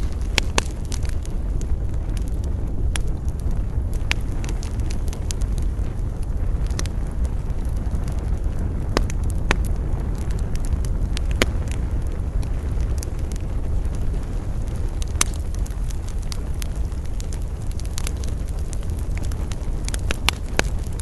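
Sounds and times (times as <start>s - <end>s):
campfire crackling and popping: 0.0s - 21.0s
low wind rumble: 0.0s - 21.0s.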